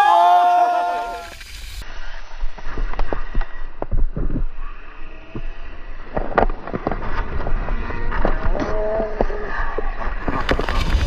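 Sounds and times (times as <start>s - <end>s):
wind rumbling on microphone: 1.1s - 11.0s.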